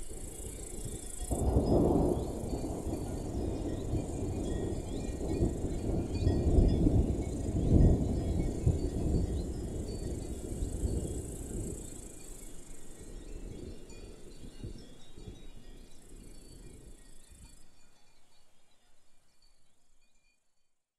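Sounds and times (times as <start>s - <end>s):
insect chirring: 0.0s - 17.6s.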